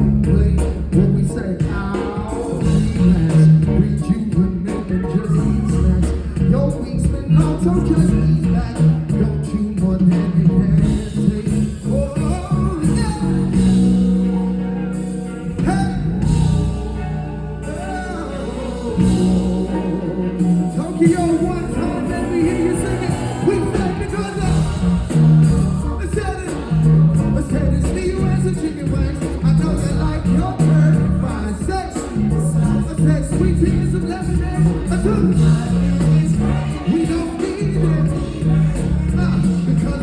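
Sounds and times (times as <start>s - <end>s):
live band playing soul-pop: 0.0s - 40.0s
person singing: 0.0s - 40.0s.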